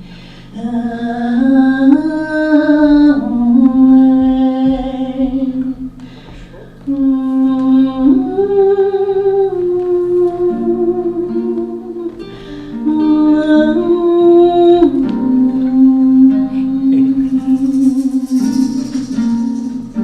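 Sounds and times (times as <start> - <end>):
person singing long notes: 0.5 - 20.0
plucked guitar: 0.6 - 20.0.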